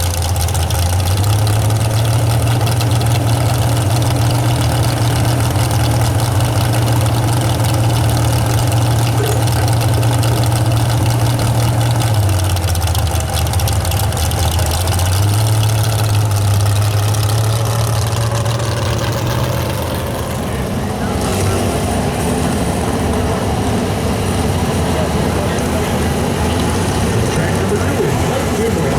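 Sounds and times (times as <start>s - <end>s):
pickup truck engine running: 0.0s - 28.9s.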